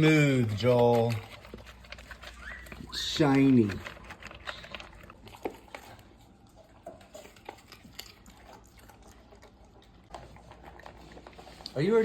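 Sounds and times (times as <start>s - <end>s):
dogs chewing wetly: 0.0s - 12.0s.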